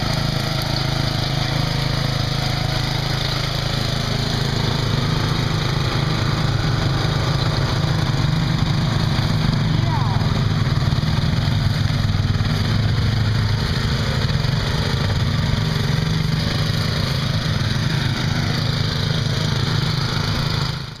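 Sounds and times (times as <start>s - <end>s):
riding lawn mower engine running: 0.0s - 21.0s.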